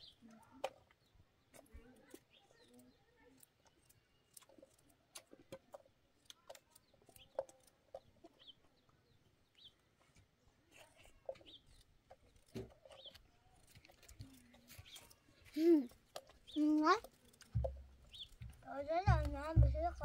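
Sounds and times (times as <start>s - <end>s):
soft bird calls: 0.0s - 20.0s.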